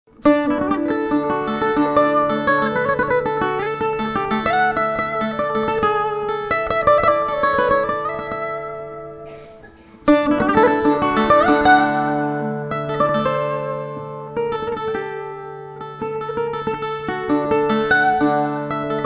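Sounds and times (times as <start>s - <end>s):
guitar duet: 0.1s - 19.0s.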